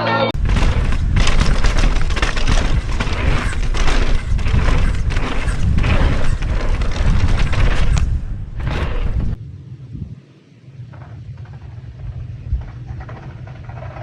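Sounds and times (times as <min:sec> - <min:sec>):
wind buffeting microphone: 0:00.4 - 0:14.0.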